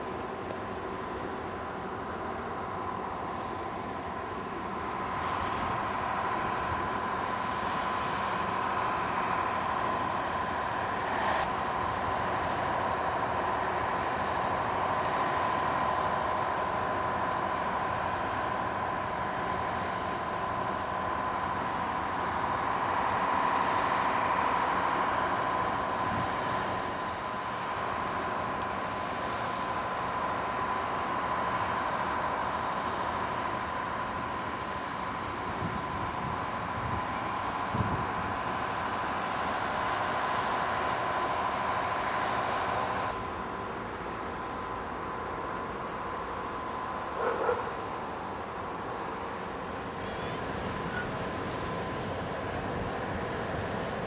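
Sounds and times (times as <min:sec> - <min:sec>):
constant hum: 0:00.0 - 0:54.0
diesel locomotive running: 0:00.0 - 0:54.0
passenger coaches rolling on track: 0:00.0 - 0:54.0.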